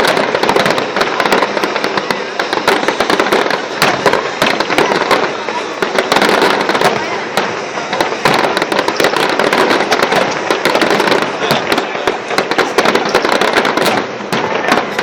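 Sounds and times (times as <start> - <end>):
fireworks and firecrackers banging: 0.0 - 15.0.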